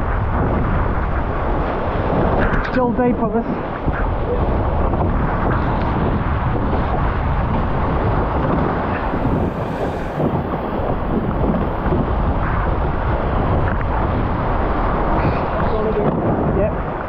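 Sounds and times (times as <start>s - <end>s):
wind buffeting microphone: 0.0s - 17.0s
water rushing past hulls: 0.2s - 17.0s.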